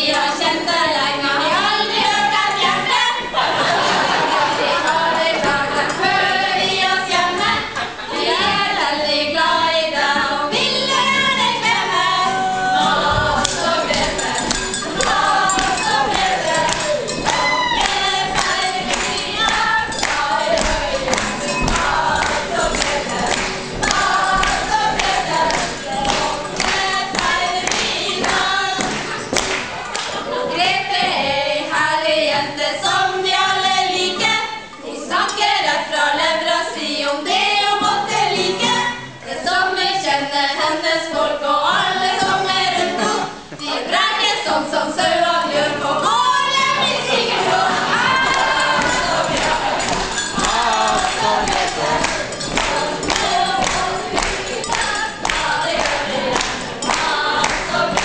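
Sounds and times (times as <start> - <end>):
women singing in chorus: 0.0 - 58.0.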